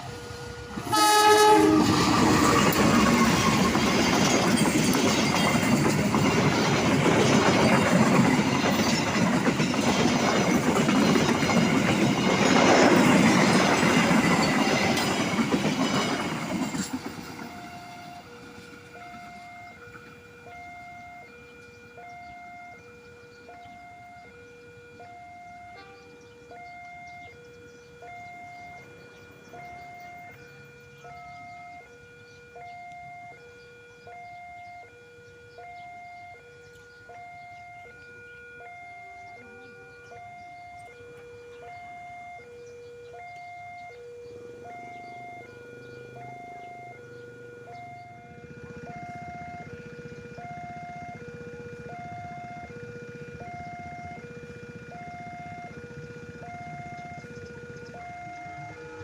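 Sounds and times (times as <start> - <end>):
low engine rumble: 0.0 - 59.0
level crossing two-tone alarm: 0.1 - 59.0.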